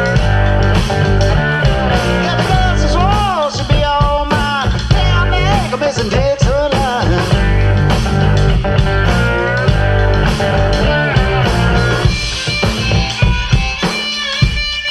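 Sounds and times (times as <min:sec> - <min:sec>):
bass and drums: 0:00.0 - 0:14.9
electric guitar bent notes: 0:00.0 - 0:14.9.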